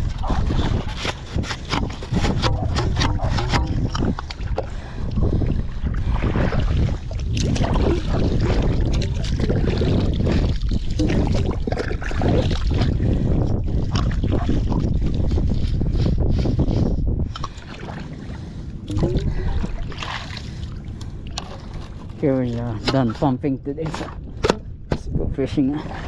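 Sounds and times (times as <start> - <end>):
water sloshing and splashing: 0.0 - 26.0
wind buffeting microphone: 0.0 - 26.0.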